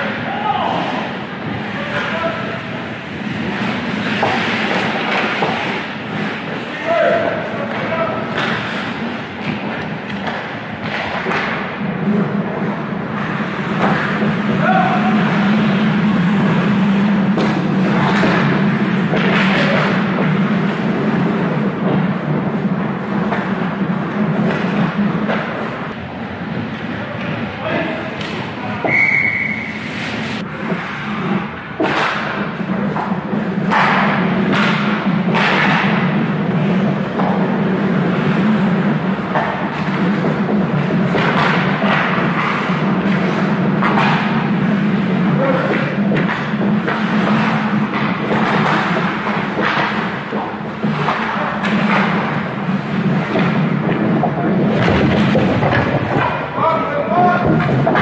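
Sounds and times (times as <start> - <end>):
puck and sticks thudding: 0.0 - 58.0
skate blades scraping ice: 0.7 - 25.9, 28.2 - 58.0.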